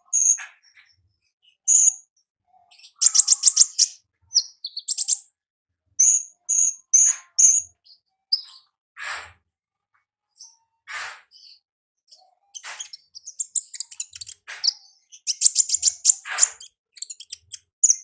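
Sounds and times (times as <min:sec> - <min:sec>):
bird chirping song: 0:00.0 - 0:05.3, 0:06.0 - 0:08.8, 0:11.3 - 0:18.0.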